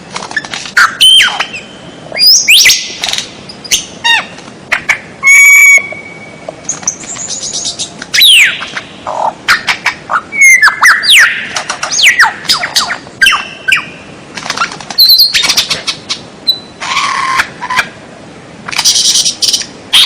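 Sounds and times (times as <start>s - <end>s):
songbird singing: 0.0s - 18.0s, 18.7s - 20.0s.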